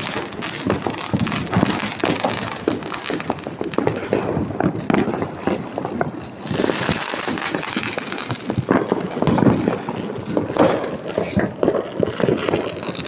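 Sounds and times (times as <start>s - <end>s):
firecrackers popping and crackling: 0.0s - 13.0s.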